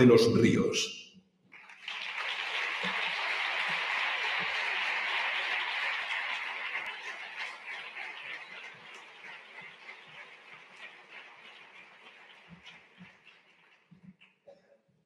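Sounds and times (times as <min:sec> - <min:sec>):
audience applauding: 0:01.5 - 0:14.4.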